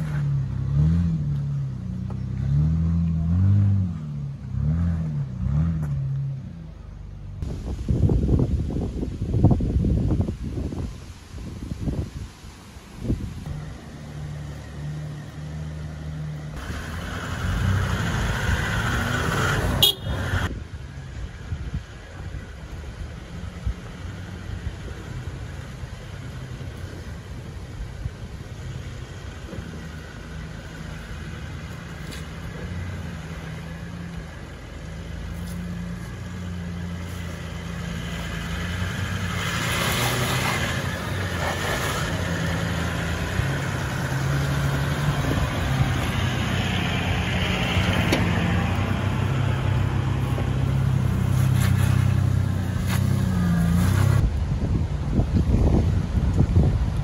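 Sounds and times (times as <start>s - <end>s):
off-road vehicle engines droning: 0.0s - 57.0s.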